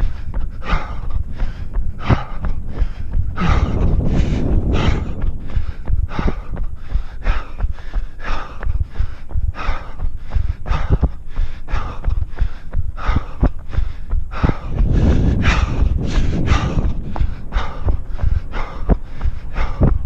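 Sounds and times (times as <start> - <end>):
runner breathing hard: 0.0 - 20.0
wind rumble on microphone: 0.0 - 20.0.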